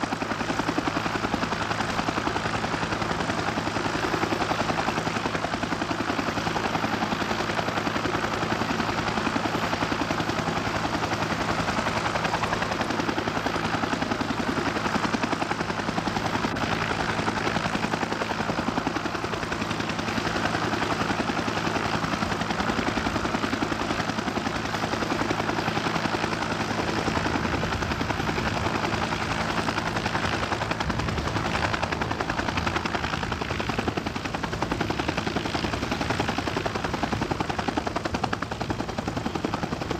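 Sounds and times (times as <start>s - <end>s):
helicopter engine hum: 0.0s - 39.9s
helicopter rotor chopping: 0.0s - 39.9s.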